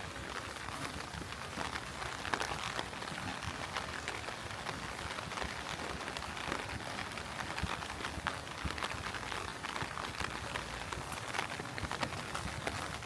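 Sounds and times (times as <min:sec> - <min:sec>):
rain drops ticking and splashing: 0:00.0 - 0:13.0.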